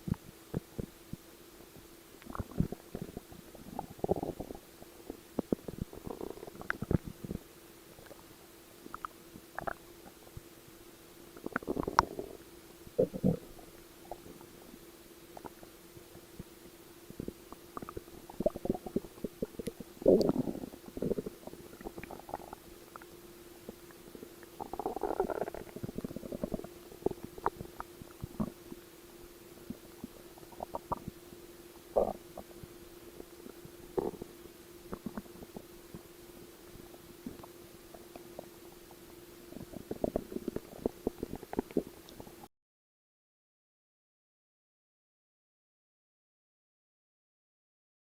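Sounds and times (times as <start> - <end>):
stomach growling: 0.0 - 1.2, 2.2 - 10.5, 11.3 - 16.5, 17.1 - 28.9, 29.6 - 42.5
faint steady hum: 0.0 - 42.5.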